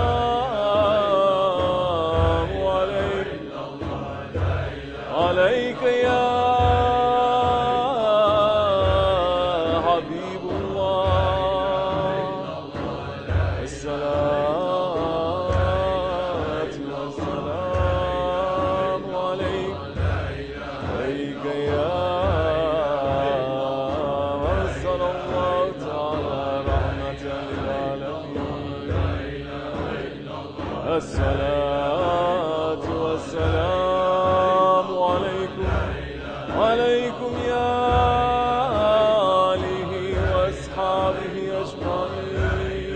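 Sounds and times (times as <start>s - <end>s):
man singing a slow chant: 0.0s - 42.9s.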